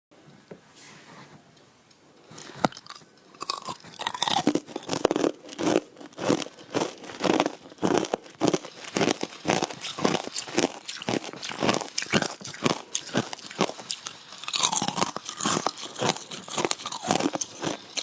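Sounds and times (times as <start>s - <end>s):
ice crunching being chewed: 2.3s - 18.0s.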